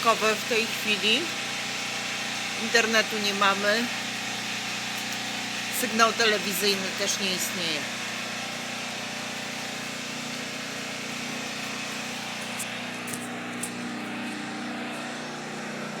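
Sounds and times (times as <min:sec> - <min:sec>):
generator engine droning: 0:00.0 - 0:16.0.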